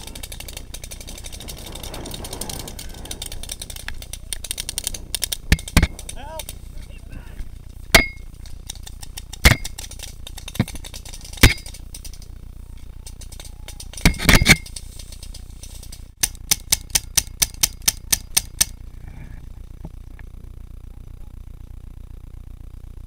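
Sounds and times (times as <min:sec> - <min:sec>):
paintball markers firing: 0:00.0 - 0:18.8.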